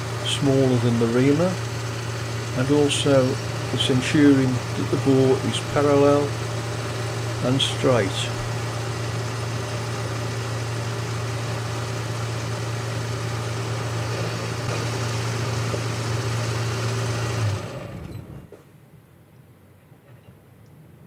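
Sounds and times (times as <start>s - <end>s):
lathe motor humming: 0.0s - 18.5s.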